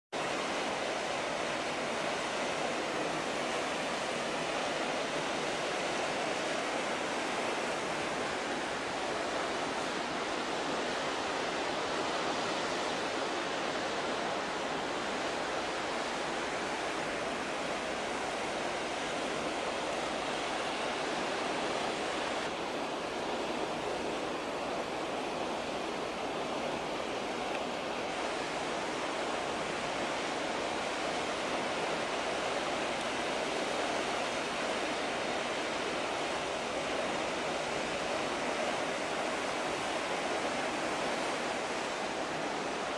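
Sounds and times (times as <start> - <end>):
churning wake water: 0.1 - 42.9.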